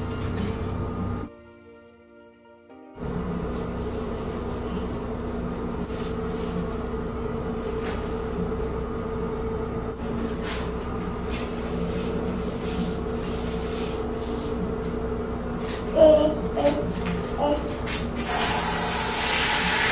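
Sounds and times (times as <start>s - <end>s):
steady machine hum: 0.0s - 1.3s, 3.0s - 19.9s.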